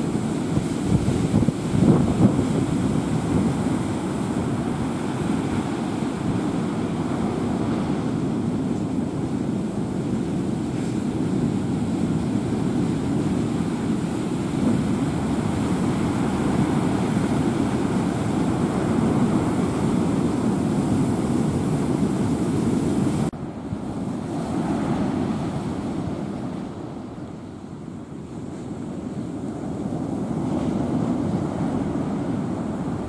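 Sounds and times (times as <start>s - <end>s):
storm wind and surf: 0.0s - 33.0s
wind blowing on microphone: 0.0s - 33.0s.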